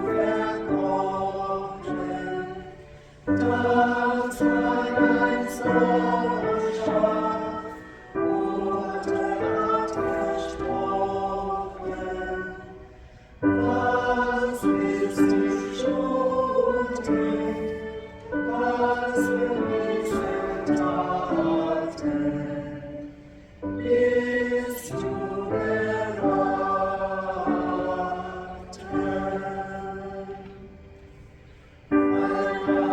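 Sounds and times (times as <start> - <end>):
church choir singing a hymn: 0.0 - 32.9.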